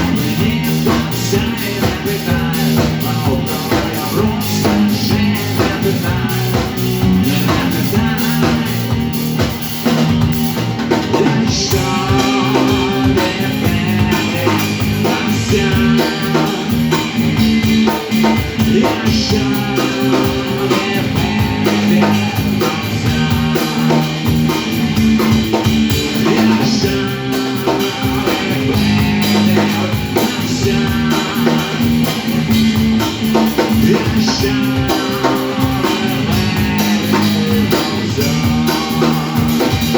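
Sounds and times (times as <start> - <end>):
rock music with drums and guitar: 0.0 - 39.9.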